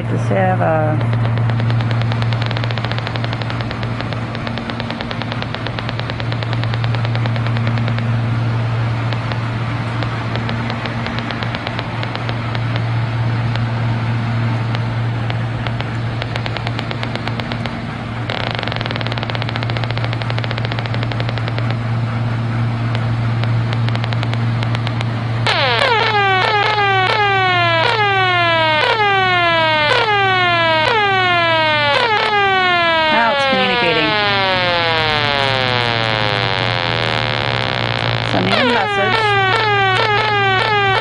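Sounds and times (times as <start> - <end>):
rf analyser speaker crackling: 0.0 - 41.0
steady low hum: 0.0 - 41.0.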